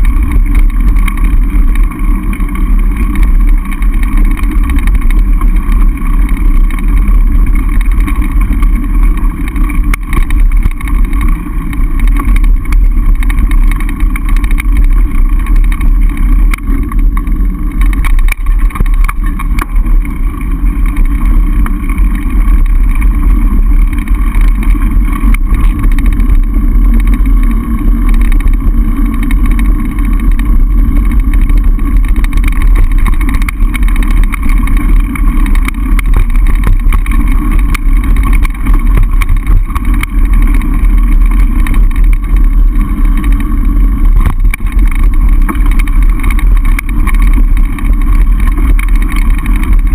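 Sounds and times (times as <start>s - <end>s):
faint bike ticks: 0.0s - 49.9s.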